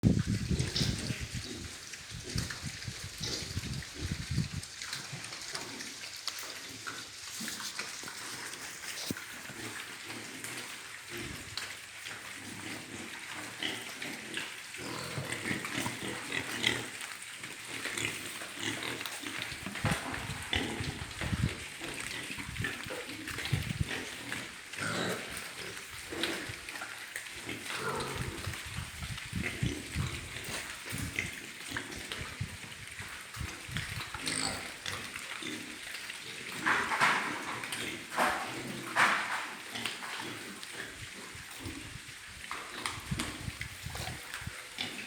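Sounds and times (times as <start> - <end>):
pigs grunting: 0.5 - 4.4, 5.0 - 11.6, 12.2 - 32.4, 33.4 - 45.0.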